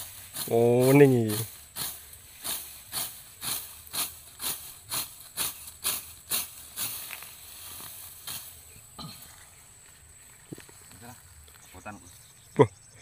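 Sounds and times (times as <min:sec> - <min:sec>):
sickle swishing through grass: 0:00.0 - 0:11.0.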